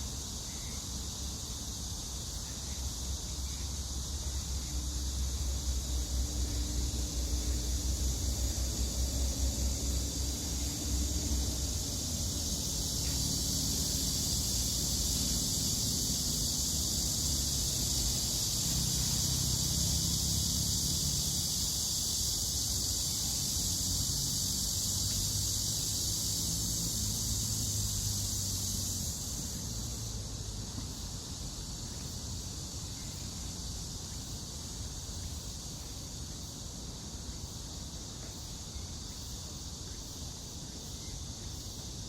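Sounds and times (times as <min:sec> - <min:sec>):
high-pitched hiss: 0:00.0 - 0:42.0.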